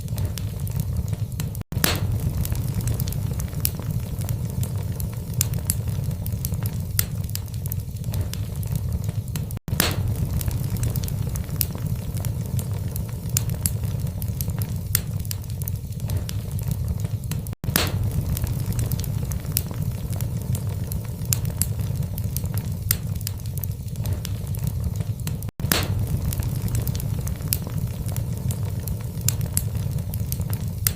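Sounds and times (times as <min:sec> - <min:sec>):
low rumble of flames: 0:00.0 - 0:30.9
wood fire crackling and popping: 0:00.0 - 0:30.9.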